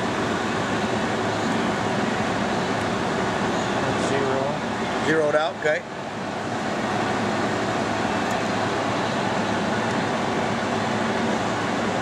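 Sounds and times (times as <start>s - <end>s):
machinery humming and hissing: 0.0s - 12.0s.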